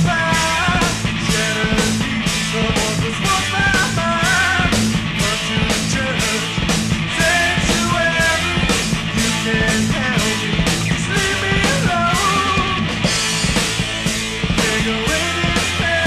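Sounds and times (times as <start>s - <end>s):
person singing: 0.0s - 13.0s, 14.4s - 16.0s
bass: 0.0s - 16.0s
drum beat: 0.0s - 16.0s
electric guitars: 0.0s - 16.0s.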